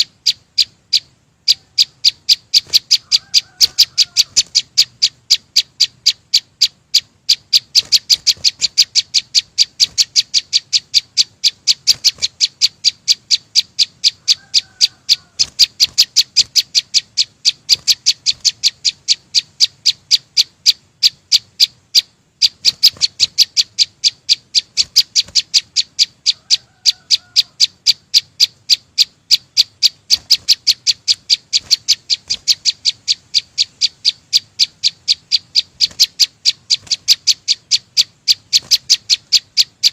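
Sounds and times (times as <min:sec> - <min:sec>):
songbird chipping: 0:00.0 - 0:39.9.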